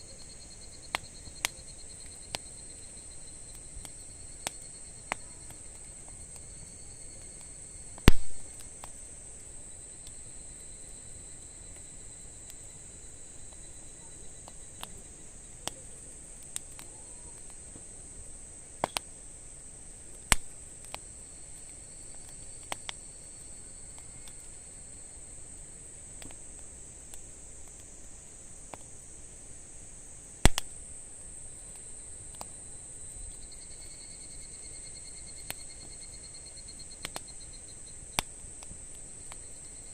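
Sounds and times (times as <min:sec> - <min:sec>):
insects chirring: 0:00.0 - 0:39.9
wood fire crackling and popping: 0:00.1 - 0:39.9.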